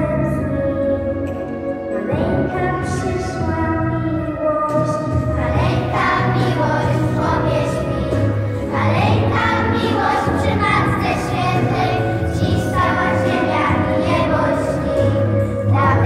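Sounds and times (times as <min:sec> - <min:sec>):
children's choir singing a carol: 0:00.0 - 0:16.0
instrumental accompaniment with bass: 0:00.0 - 0:16.0.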